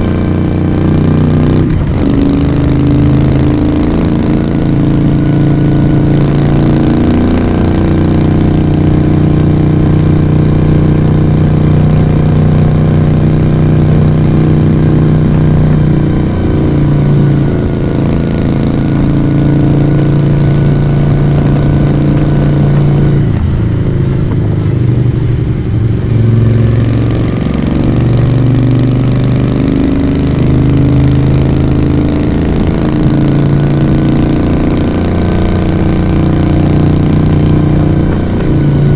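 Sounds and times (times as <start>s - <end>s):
motorcycle engine and exhaust running: 0.0s - 38.9s.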